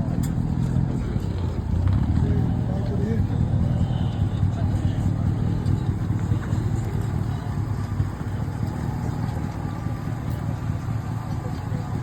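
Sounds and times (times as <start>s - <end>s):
pickup engine rumbling: 0.0s - 12.0s.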